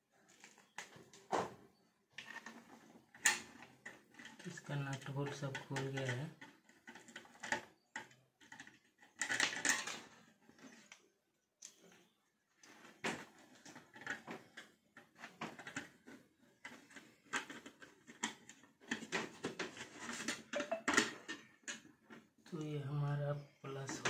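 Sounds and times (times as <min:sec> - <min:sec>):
metal case and wires handled: 0:02.2 - 0:11.0, 0:11.6 - 0:22.3.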